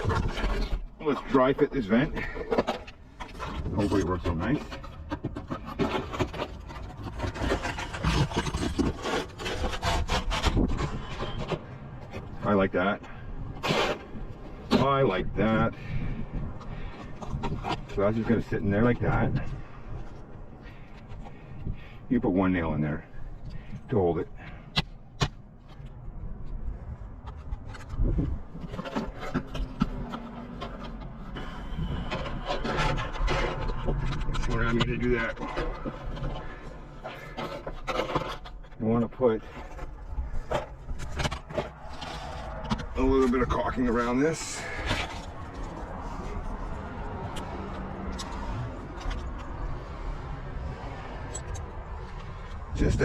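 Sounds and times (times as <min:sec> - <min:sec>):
metal vent scraping on shingles: 0:00.0 - 0:53.0.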